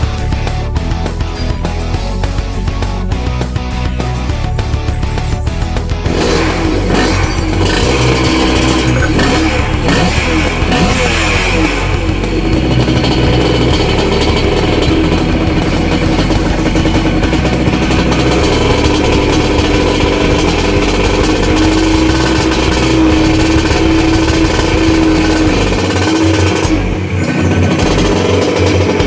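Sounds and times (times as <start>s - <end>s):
two-stroke motorcycle engine running: 0.0s - 29.0s.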